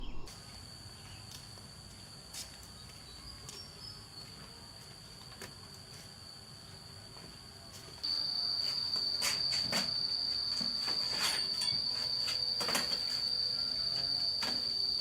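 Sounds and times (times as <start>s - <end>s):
insects chirring: 0.1s - 15.0s.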